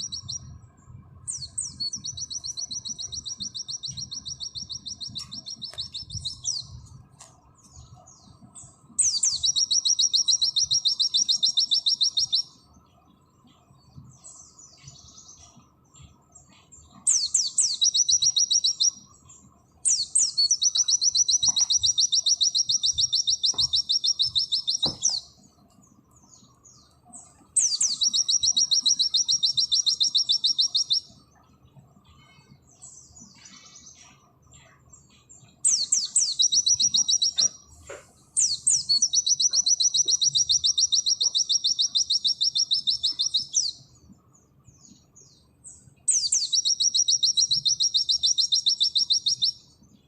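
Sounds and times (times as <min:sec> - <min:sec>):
bird singing rapid high notes: 0:00.0 - 0:37.7, 0:38.3 - 0:44.0, 0:44.8 - 0:50.0
soft bird chirps: 0:00.0 - 0:50.0.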